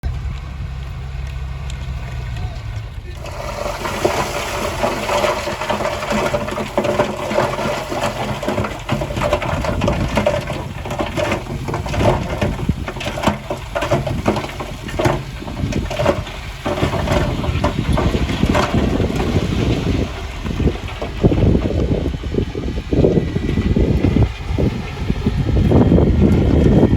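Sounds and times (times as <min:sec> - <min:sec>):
bulldozer engine humming: 0:00.0 - 0:26.9
gravel and stones crunching: 0:00.0 - 0:26.9.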